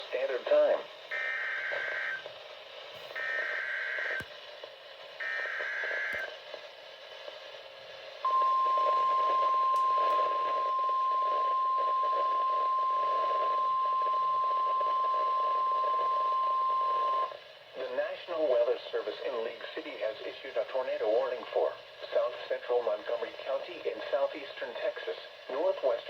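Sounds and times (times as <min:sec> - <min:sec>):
radio hiss: 0:00.0 - 0:26.0.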